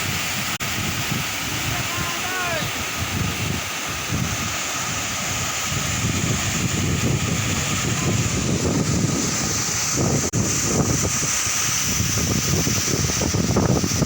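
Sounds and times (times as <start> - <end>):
waterfall rushing: 0.0 - 14.0
wind buffeting microphone: 0.0 - 14.0.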